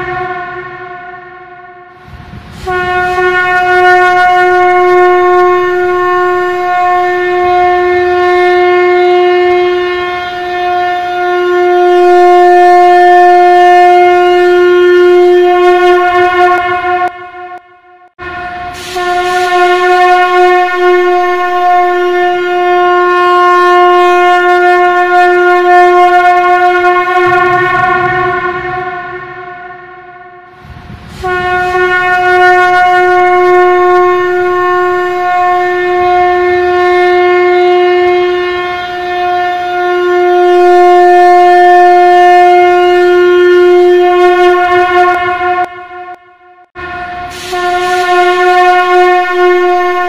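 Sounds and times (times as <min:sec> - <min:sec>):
conch shell blasts: 0:00.0 - 0:50.0.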